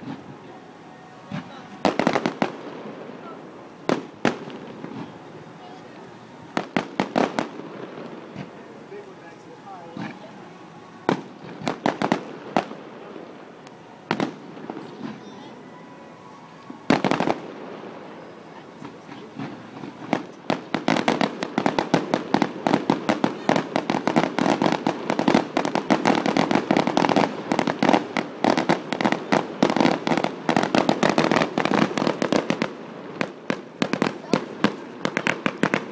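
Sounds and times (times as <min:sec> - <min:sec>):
fireworks bangs and crackles: 0:00.0 - 0:00.5, 0:01.2 - 0:15.6, 0:16.5 - 0:35.9.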